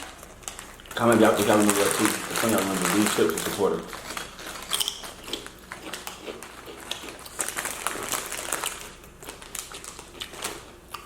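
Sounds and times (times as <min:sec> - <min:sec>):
chewing and crunching chips: 0:00.0 - 0:11.0.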